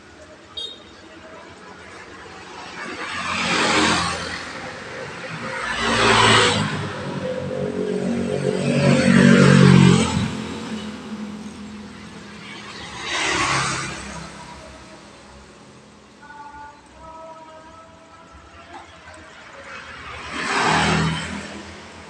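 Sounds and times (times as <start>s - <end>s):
vehicles passing by: 0.0s - 22.0s.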